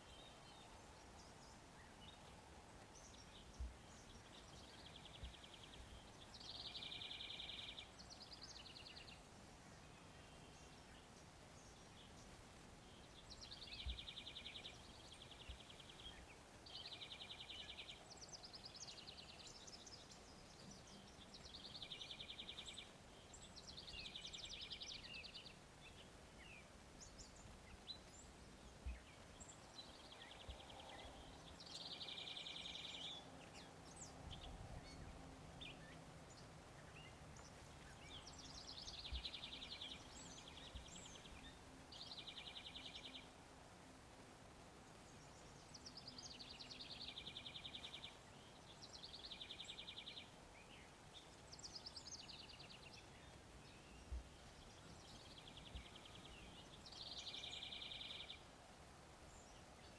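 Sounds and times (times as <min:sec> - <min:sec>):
songbird trills: 0:00.0 - 0:44.0, 0:44.8 - 0:59.9.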